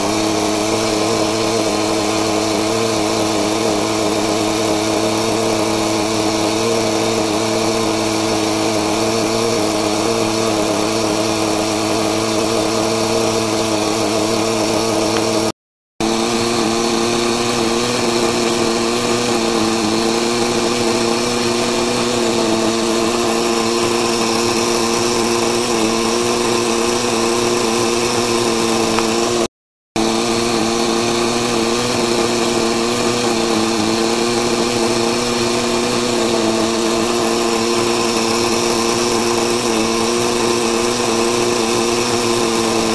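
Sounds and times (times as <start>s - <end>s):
small two-stroke engine droning: 0.0s - 42.9s.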